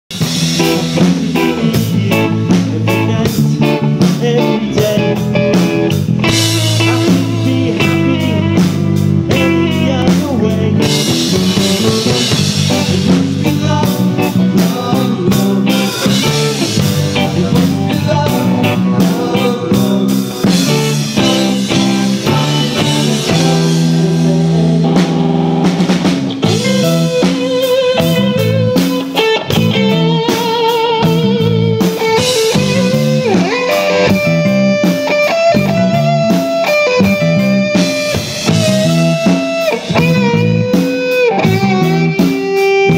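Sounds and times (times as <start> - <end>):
bass guitar: 0.0 - 42.9
drum kit: 0.1 - 42.9
electric guitar: 0.1 - 42.9.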